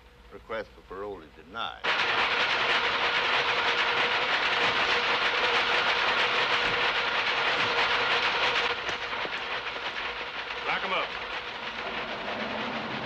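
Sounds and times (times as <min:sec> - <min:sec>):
power looms clattering: 0:01.8 - 0:13.0
steady machine hum: 0:01.8 - 0:13.0.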